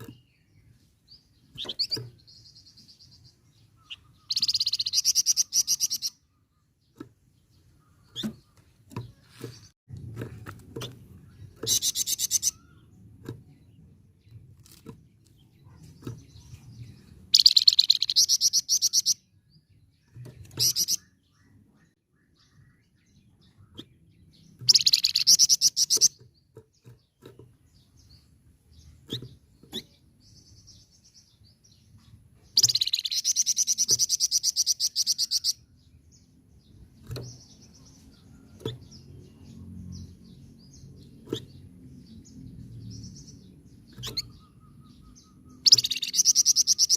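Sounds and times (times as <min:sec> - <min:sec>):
songbird chattering: 0:00.0 - 0:09.7, 0:10.8 - 0:14.8, 0:15.4 - 0:46.9.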